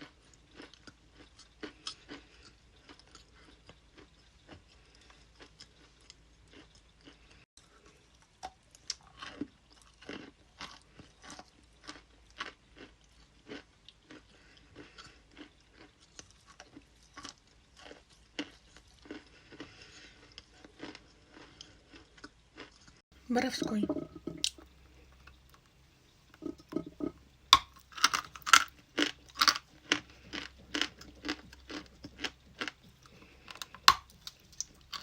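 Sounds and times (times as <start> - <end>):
ice crunching while chewed: 0.0 - 23.0, 23.6 - 35.0.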